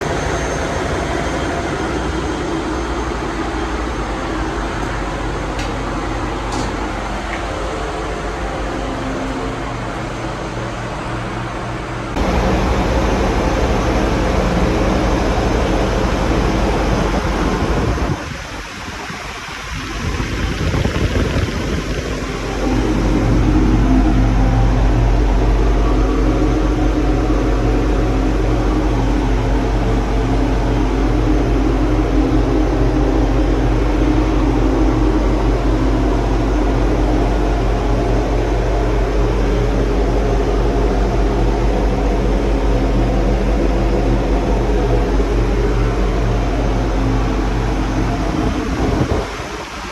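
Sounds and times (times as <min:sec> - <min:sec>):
engine-room machinery drone: 0:00.0 - 0:49.9.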